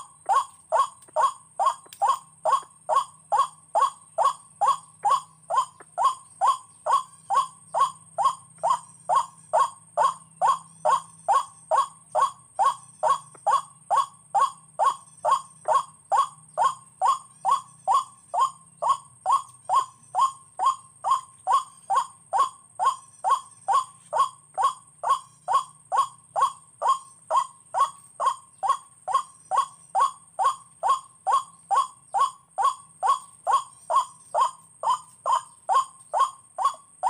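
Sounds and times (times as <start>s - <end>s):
waterhen calling: 0.0s - 37.0s.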